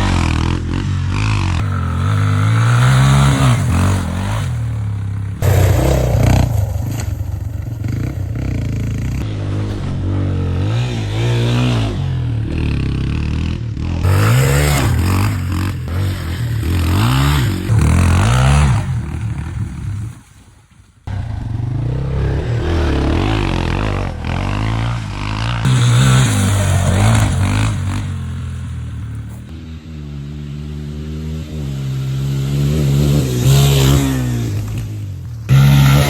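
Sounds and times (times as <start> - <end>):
dirt bike engine revving: 0.0 - 20.4, 21.0 - 36.0.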